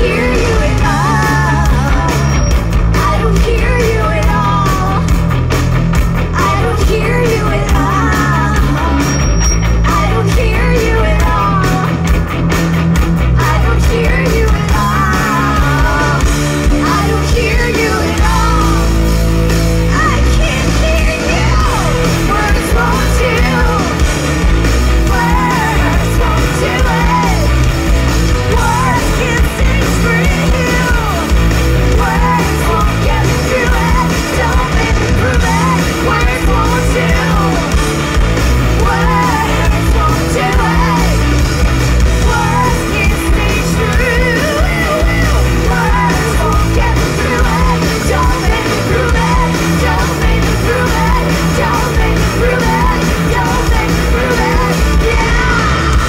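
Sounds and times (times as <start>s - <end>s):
woman singing and yelling: 0.0s - 5.1s, 6.4s - 12.0s, 13.4s - 19.1s, 19.9s - 24.0s, 25.0s - 27.6s, 28.5s - 37.7s, 38.7s - 41.4s, 42.2s - 56.0s
bass guitar: 0.0s - 56.0s
distorted electric guitars: 0.0s - 56.0s
drums: 0.0s - 56.0s.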